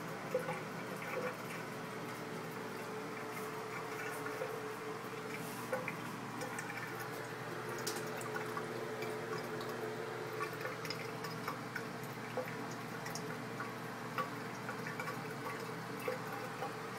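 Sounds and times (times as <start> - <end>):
drips in sink basin: 0.0 - 16.9
water trickling from faucet: 0.0 - 16.9.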